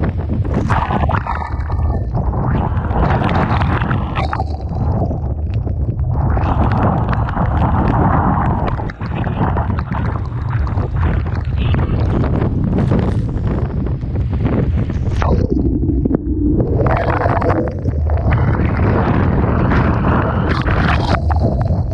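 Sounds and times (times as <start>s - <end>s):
rough sea surging: 0.0s - 21.9s
wind buffeting microphone: 0.0s - 21.9s.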